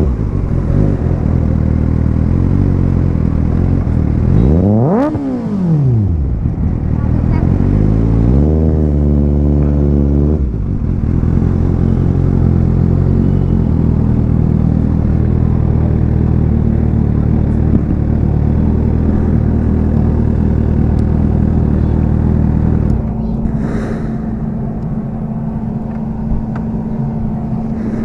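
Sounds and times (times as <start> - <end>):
motorcycle engine at low revs: 0.0 - 28.0.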